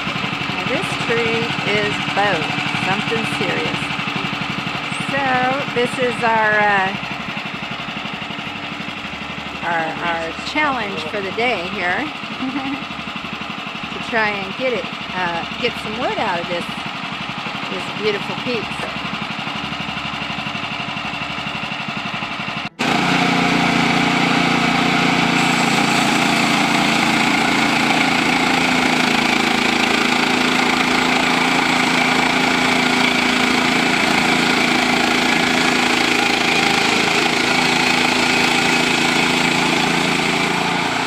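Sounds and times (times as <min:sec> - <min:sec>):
gas engine running: 0:00.0 - 0:41.0.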